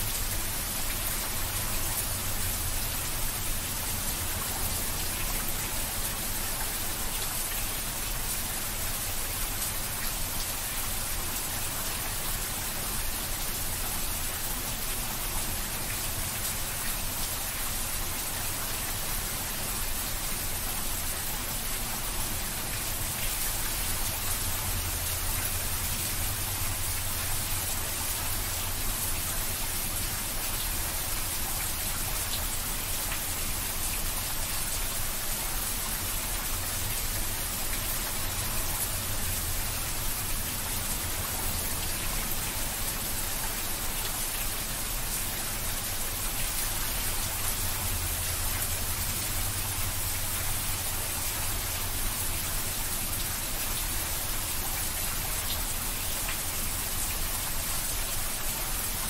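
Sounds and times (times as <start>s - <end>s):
heavy rain on roof and trees: 0.0s - 59.0s.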